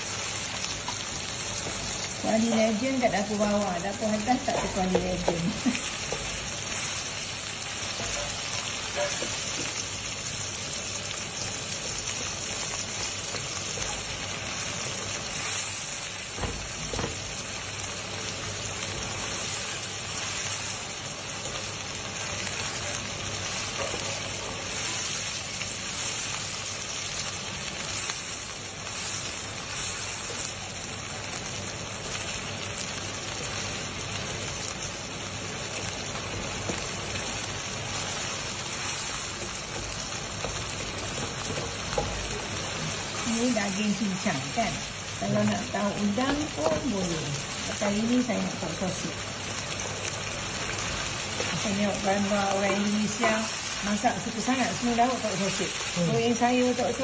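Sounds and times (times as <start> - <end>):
wooden spatula stirring in wok: 0.0 - 32.6, 33.2 - 57.0
meat sizzling in oil: 0.0 - 57.0.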